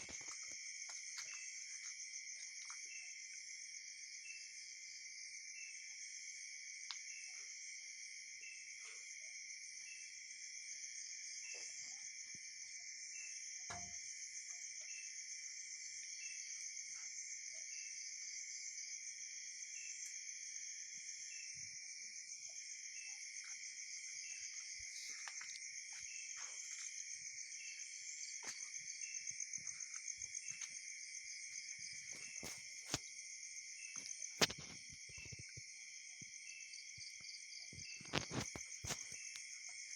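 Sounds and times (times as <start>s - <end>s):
crickets trilling: 0.0s - 39.9s
faint insect chirp: 0.0s - 39.9s.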